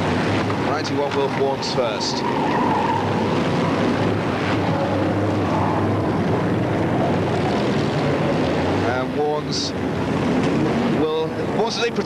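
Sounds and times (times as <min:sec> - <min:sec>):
racing car engines droning: 0:00.0 - 0:12.0.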